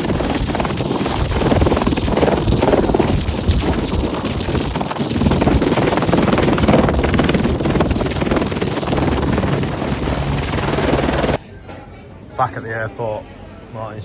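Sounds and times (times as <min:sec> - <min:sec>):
helicopter rotor chopping: 0:00.0 - 0:11.4.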